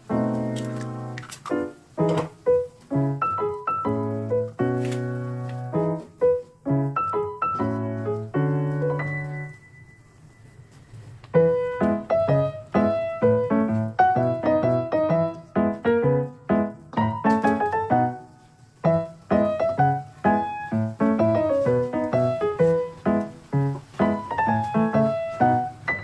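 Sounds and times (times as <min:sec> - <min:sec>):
piano melody: 0:00.0 - 0:26.0.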